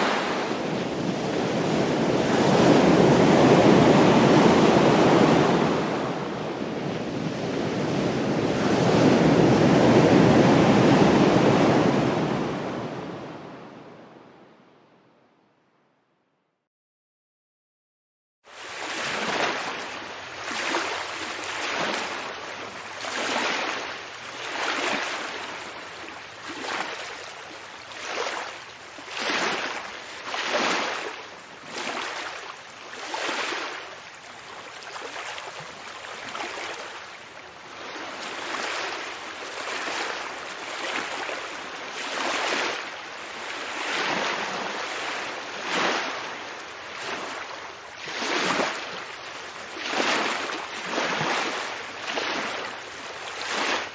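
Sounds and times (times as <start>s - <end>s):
ocean waves washing: 0.0s - 14.4s, 18.5s - 53.9s.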